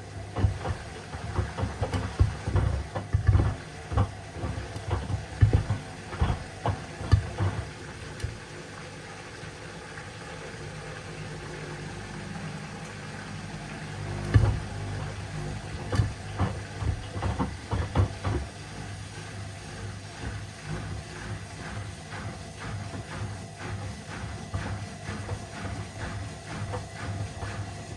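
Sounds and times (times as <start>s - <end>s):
washing machine motor hum: 0.0s - 27.9s.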